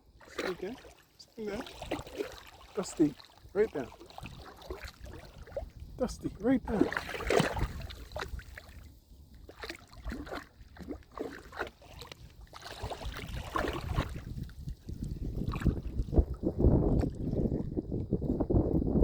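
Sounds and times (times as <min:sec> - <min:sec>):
shallow water splashing: 0:00.0 - 0:17.8.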